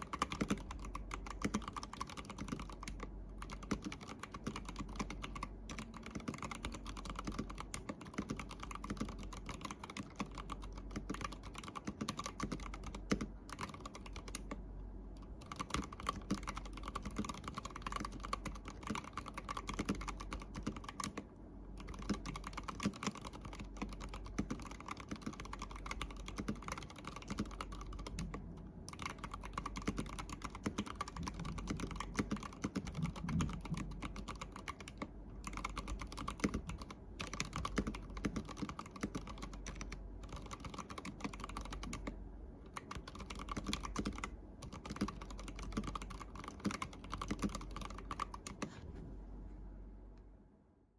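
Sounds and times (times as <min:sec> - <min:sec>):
mechanical keyboard typing: 0:00.0 - 0:48.7.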